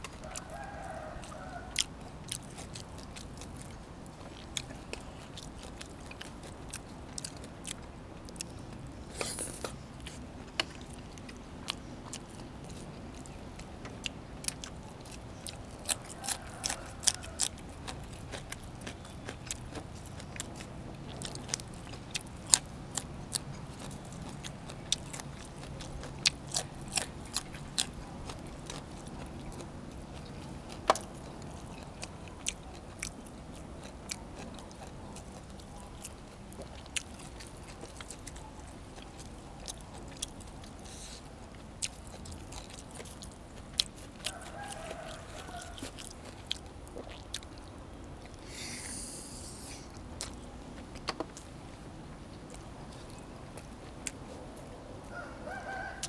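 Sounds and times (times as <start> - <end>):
person chewing and crunching food: 0.0 - 56.0.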